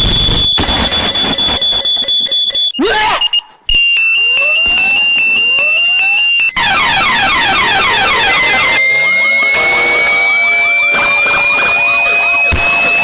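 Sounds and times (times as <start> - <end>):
rising alarm sweeps: 0.0 - 13.0
steady high alarm tone: 0.0 - 13.0.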